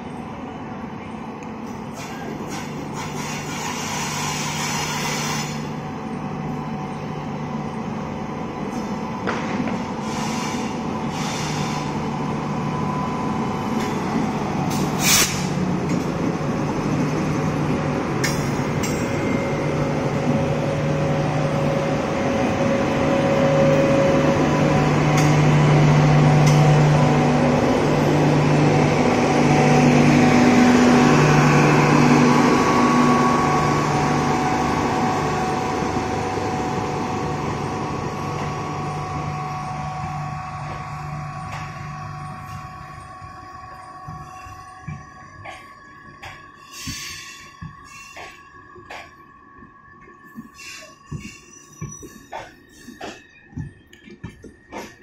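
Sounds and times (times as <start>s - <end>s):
electric locomotive hum: 0.0s - 55.0s
train wheels rumbling on rails: 0.0s - 55.0s.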